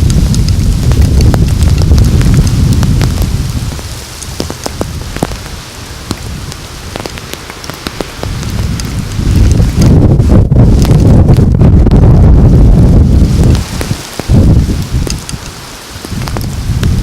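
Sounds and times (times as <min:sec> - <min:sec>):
raindrops ticking on a surface: 0:00.0 - 0:17.0
wind buffeting microphone: 0:00.0 - 0:17.0.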